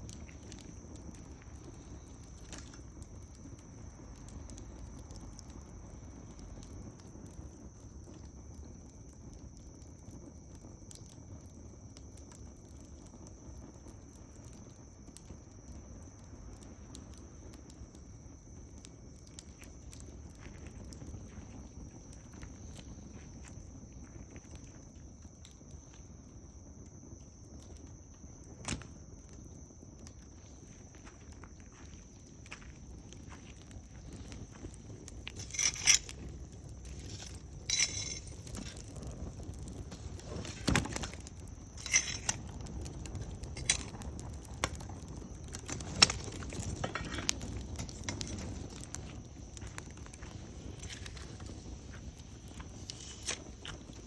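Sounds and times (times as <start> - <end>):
bonfire crackling: 0.0 - 54.0
fire pops: 0.0 - 54.0.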